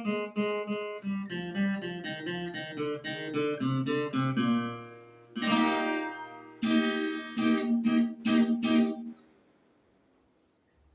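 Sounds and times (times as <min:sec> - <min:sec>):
guitar chords strummed: 0:00.0 - 0:09.2.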